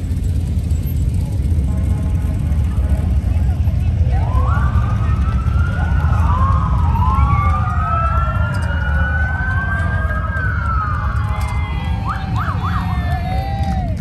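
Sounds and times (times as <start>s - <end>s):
emergency sirens wailing: 2.4s - 14.0s.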